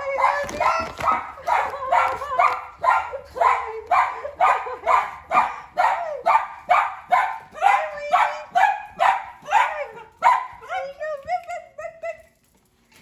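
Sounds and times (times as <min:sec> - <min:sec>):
dogs barking excitedly: 0:00.0 - 0:12.4.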